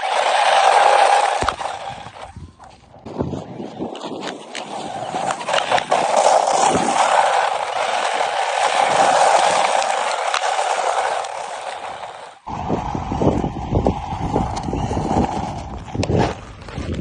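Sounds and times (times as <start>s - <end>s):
toy car motor whine: 0.0s - 2.4s, 4.9s - 16.3s
wheels rolling over rough ground: 0.0s - 17.0s.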